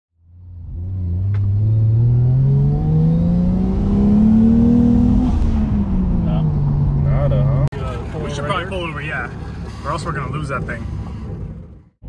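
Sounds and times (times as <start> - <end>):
car engine accelerating: 0.3 - 12.0.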